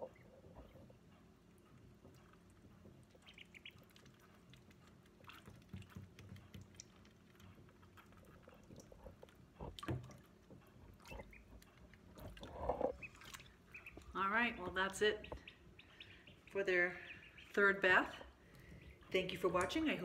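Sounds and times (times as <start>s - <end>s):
ducklings peeping: 0.0s - 9.5s, 10.1s - 20.0s
ducklings dabbling in water: 0.0s - 20.0s.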